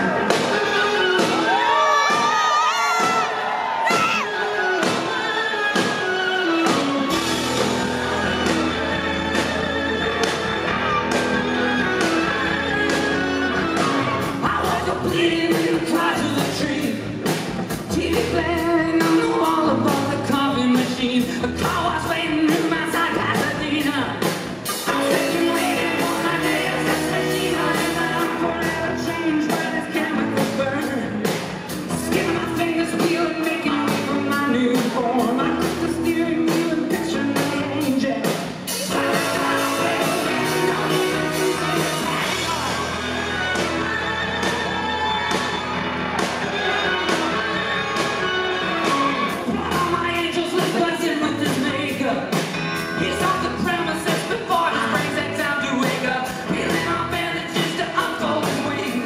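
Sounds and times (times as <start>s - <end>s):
man singing lead: 0.0s - 45.8s, 46.5s - 59.0s
drum kit: 0.0s - 59.0s
electric guitars: 0.0s - 59.0s.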